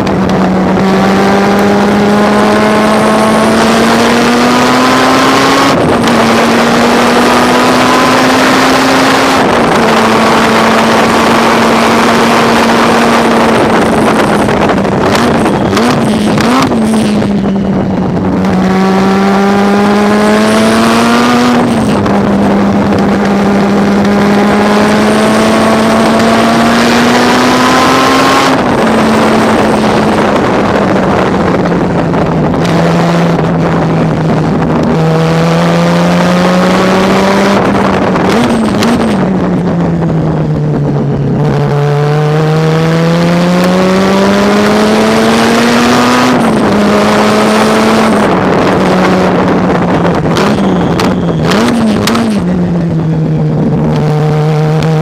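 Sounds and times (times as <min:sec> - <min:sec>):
engine throttle blips: 0:00.0 - 0:55.0
race car engine revving: 0:00.0 - 0:55.0.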